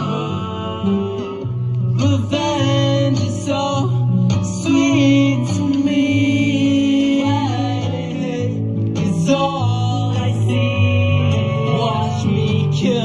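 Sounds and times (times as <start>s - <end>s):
guitar backing track: 0.0s - 13.0s
low bass line: 0.0s - 13.0s
man singing into a microphone: 0.0s - 13.0s.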